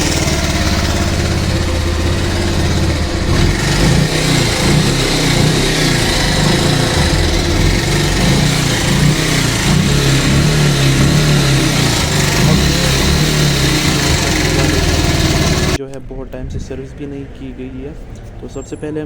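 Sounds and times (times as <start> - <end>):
motorcycle engine running: 0.0 - 15.8
mechanical rattling noise: 0.0 - 18.8.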